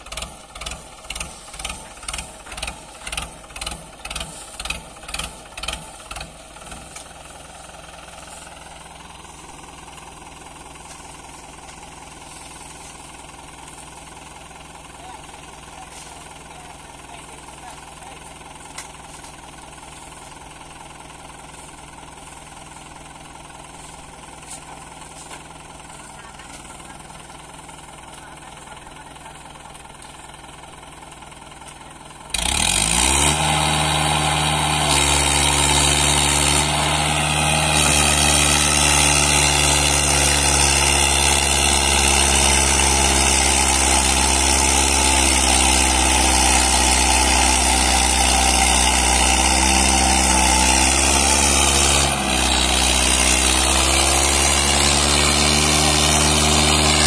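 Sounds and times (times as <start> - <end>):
diesel tractor engine revving: 0.0 - 57.0.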